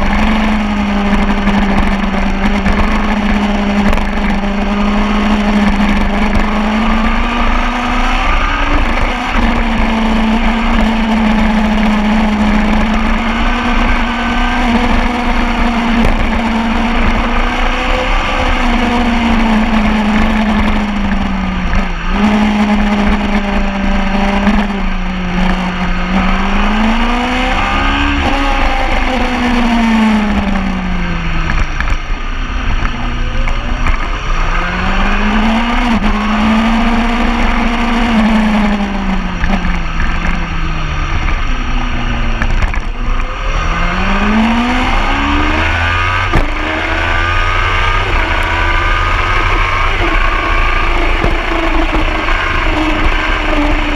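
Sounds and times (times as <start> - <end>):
motorcycle engine running hard: 0.0 - 53.9
wind and road noise: 0.0 - 53.9.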